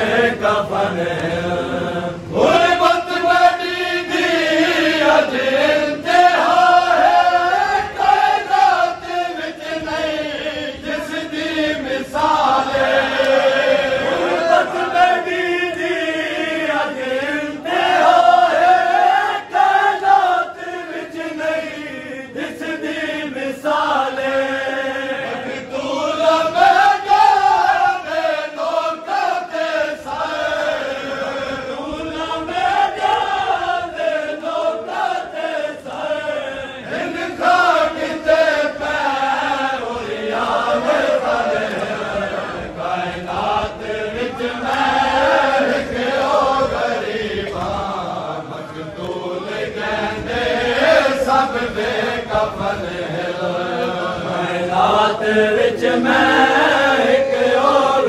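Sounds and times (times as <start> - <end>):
male voices chanting a lament: 0.0 - 58.0.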